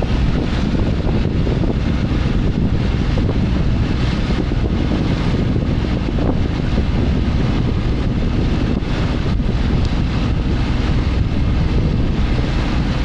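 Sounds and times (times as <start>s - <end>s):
motorboat engine: 0.0s - 13.0s
wind buffeting microphone: 0.0s - 13.0s.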